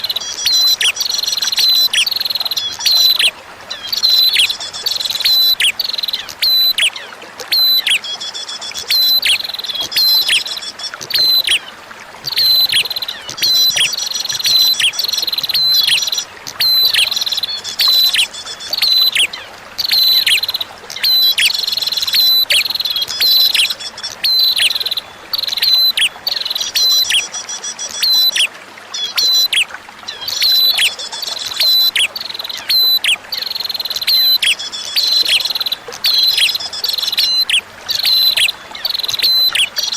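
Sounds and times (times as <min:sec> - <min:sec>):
bird chirping song: 0:00.0 - 0:39.9
flowing water: 0:00.0 - 0:39.9.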